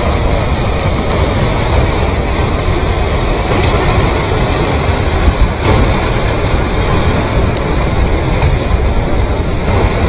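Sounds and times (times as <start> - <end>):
mud and rocks rushing rumble: 0.0 - 10.0.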